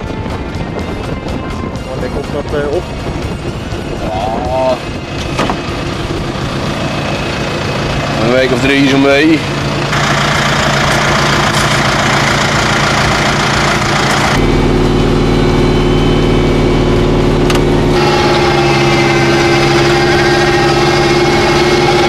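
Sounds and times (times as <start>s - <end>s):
machinery drone: 0.0s - 22.0s
tractor diesel engine running: 0.0s - 22.0s.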